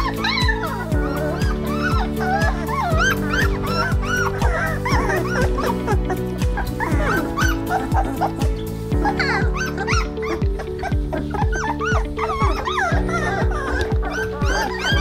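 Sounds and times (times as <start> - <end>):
background music with steady beat: 0.0 - 15.0
puppies squeaking and whimpering: 0.0 - 15.0.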